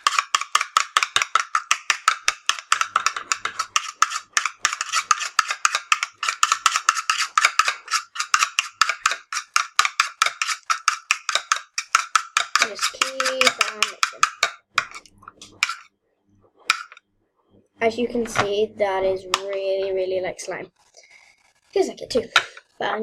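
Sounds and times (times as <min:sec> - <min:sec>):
spoon stirring thick slime: 0:00.0 - 0:15.9, 0:16.6 - 0:17.0, 0:19.3 - 0:22.7.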